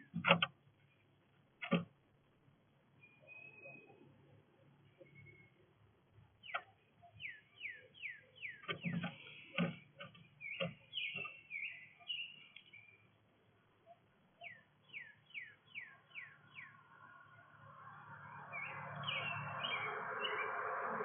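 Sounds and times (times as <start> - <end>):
songbird chirping: 2.7 - 21.0.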